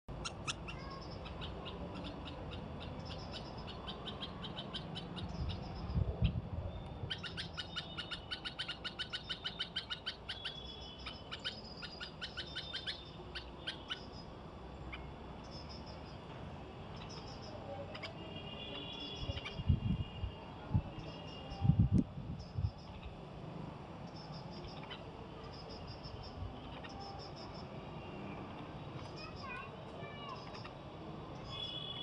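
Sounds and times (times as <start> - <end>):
sparrows chirping: 0.1 - 20.1, 20.9 - 23.3, 24.0 - 32.0.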